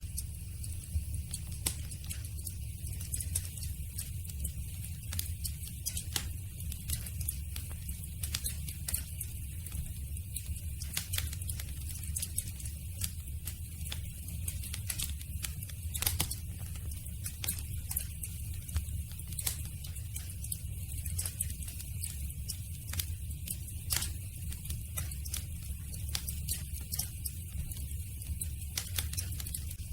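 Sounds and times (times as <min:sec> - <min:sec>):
campfire crackling: 0:00.7 - 0:29.6.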